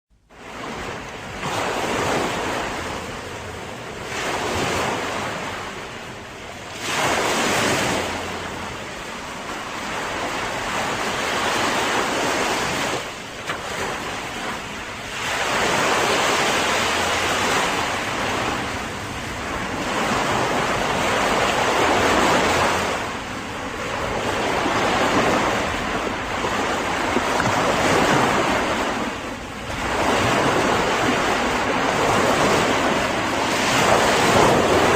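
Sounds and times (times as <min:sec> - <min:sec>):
ocean waves breaking: 0:00.1 - 0:34.9
wind on microphone: 0:00.3 - 0:34.9.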